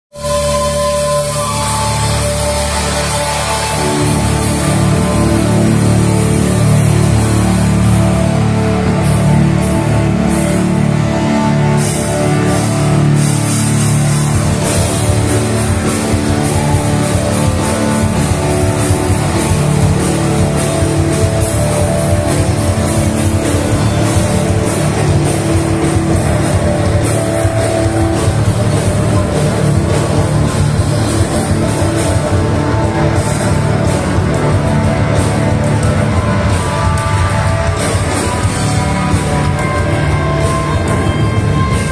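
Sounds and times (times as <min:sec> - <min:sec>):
live rock band playing: 0:00.1 - 0:41.9.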